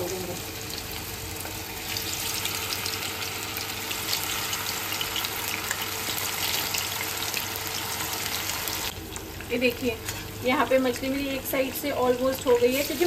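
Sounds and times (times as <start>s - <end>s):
fish deep-frying in hot oil: 0.0s - 13.0s.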